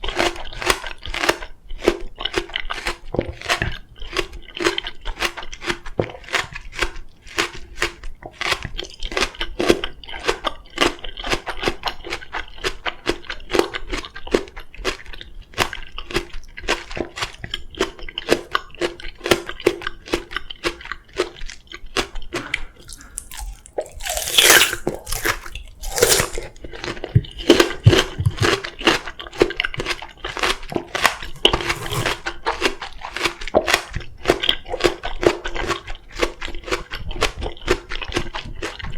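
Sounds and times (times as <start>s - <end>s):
wet crunching of melon chewing: 0.0s - 38.9s.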